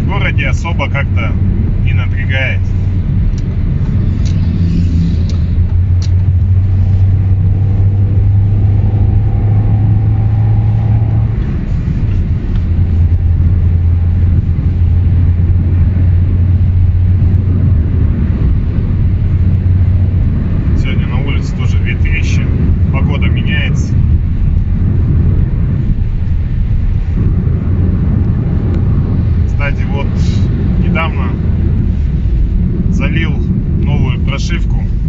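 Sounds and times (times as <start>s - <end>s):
car exhaust droning in cabin: 0.0s - 35.0s.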